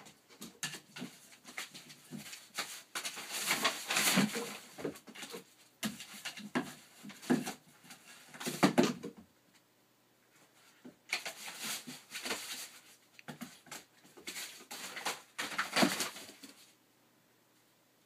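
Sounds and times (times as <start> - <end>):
paper rustling and crinkling: 0.0 - 9.0, 10.5 - 16.8.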